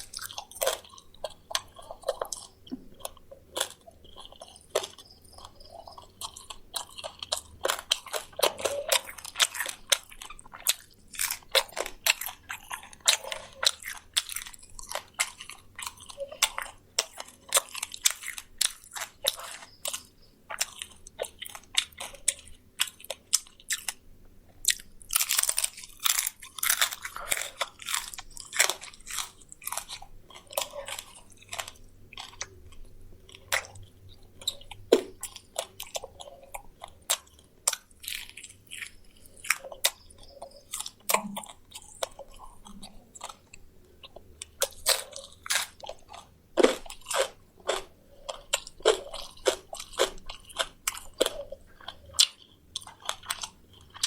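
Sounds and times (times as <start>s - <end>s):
crunchy chewing: 0.0s - 54.0s
wet chewing: 0.0s - 54.0s.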